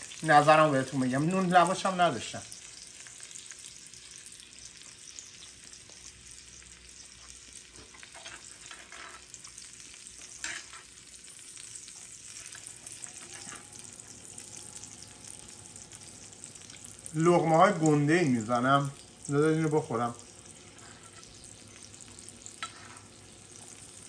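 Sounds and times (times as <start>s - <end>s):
meat sizzling and crackling: 0.0s - 24.0s.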